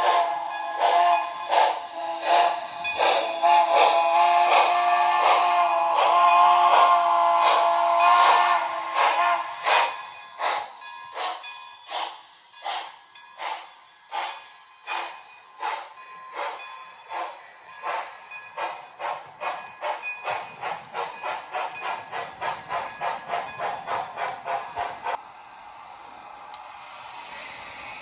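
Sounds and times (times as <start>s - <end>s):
model steam locomotive chuffing: 0.0s - 25.2s.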